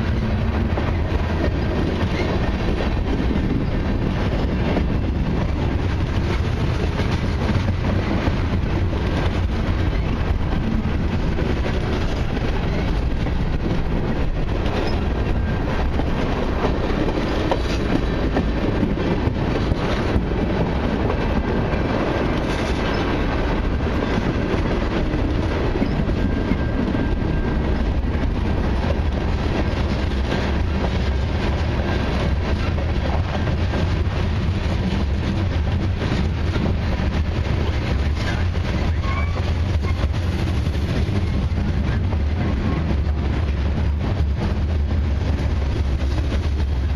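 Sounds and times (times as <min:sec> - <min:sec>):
train wheels rumbling on rail: 0:00.0 - 0:46.9
wheels clickety-clack: 0:00.0 - 0:46.9.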